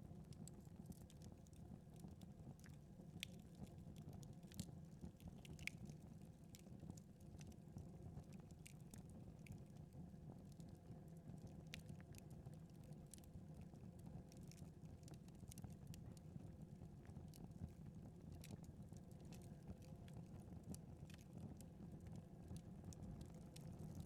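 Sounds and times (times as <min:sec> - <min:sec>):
fire crackling in fireplace: 0:00.0 - 0:24.0.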